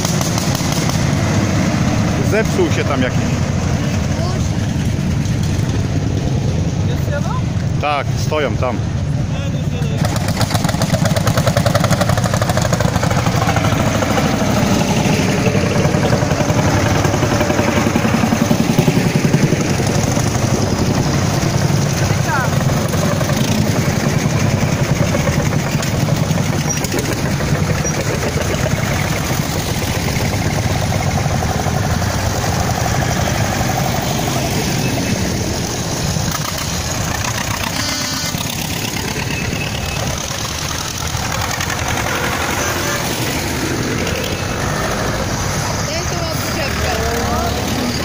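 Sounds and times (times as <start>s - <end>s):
tractor engines chugging: 0.0s - 48.0s.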